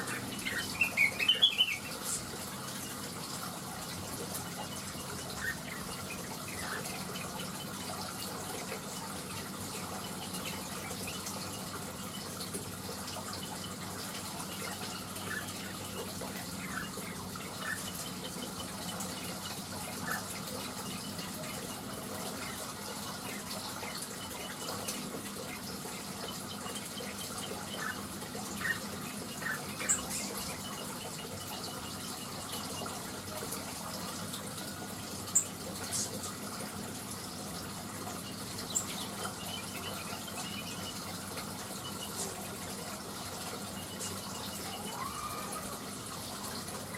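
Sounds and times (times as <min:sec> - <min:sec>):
running water: 0:00.0 - 0:46.9.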